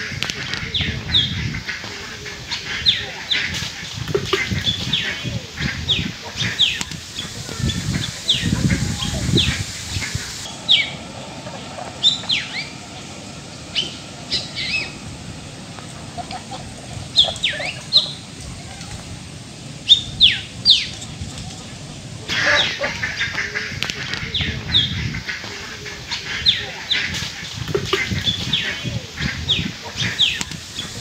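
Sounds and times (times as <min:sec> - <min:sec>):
birds chirping: 0:00.0 - 0:31.0
low murmur: 0:00.0 - 0:31.0.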